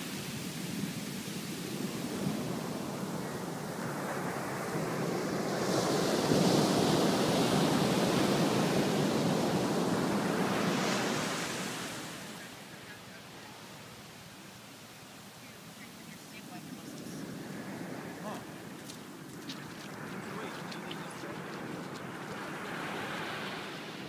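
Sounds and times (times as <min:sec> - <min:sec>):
ocean wave breaking: 0:00.0 - 0:14.1, 0:16.0 - 0:24.0.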